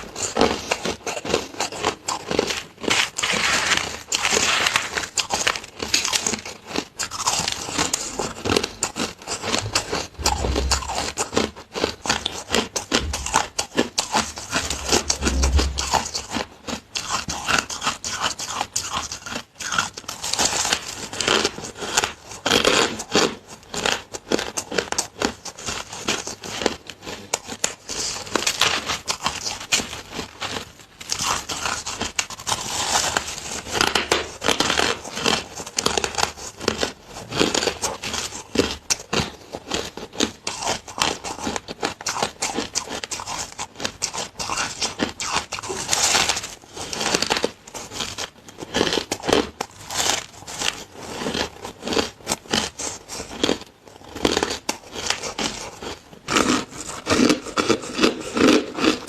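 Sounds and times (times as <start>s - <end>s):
crunching shaved ice: 0.0s - 59.0s.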